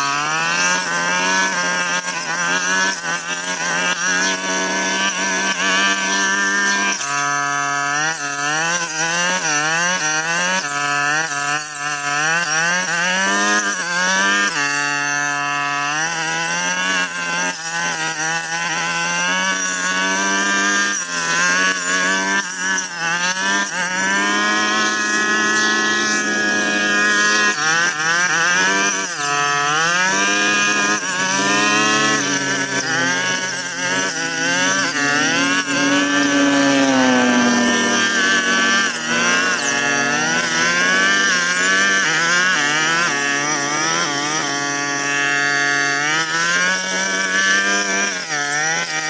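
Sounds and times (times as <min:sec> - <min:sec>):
brush cutter engine at high revs: 0:00.0 - 0:49.0.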